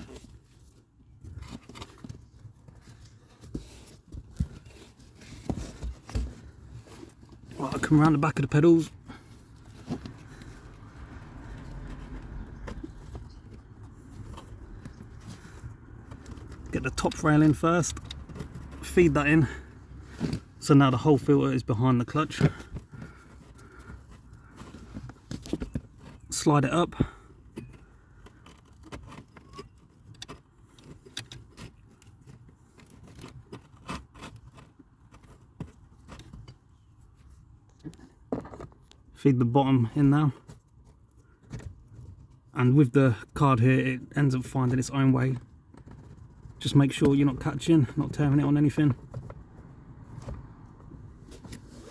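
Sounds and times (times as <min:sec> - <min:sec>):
faint rustle of filter handling: 0:00.0 - 0:39.2, 0:44.4 - 0:51.9.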